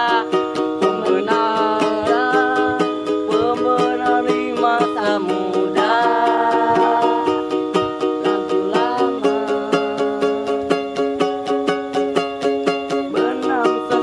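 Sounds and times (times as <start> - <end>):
person singing long notes: 0.0 - 11.5, 13.0 - 14.0
strummed acoustic string instrument: 0.0 - 14.0.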